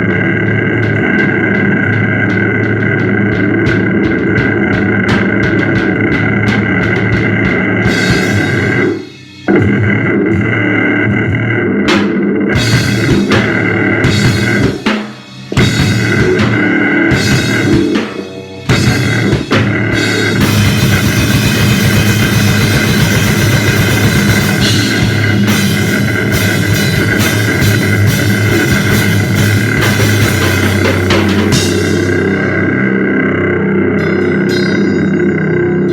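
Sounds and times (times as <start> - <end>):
drum kit with cymbals: 0.0 - 33.0, 34.0 - 35.9
heavily distorted droning instrument: 0.0 - 35.9.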